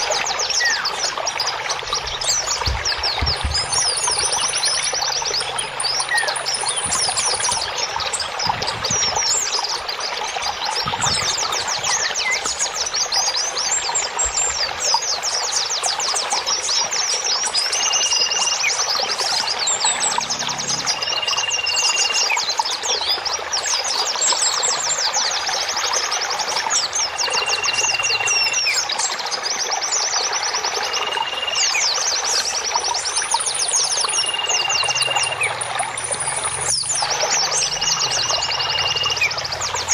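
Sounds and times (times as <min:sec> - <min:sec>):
running water: 0:00.0 - 0:39.9
songbirds chirping and trilling: 0:00.0 - 0:39.9.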